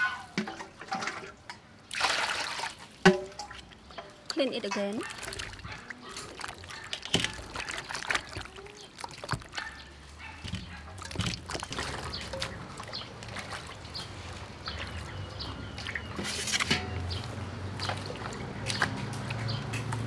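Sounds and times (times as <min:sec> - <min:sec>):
water dripping and trickling: 0:00.3 - 0:20.0
hands splashing vegetables in water: 0:01.9 - 0:20.0.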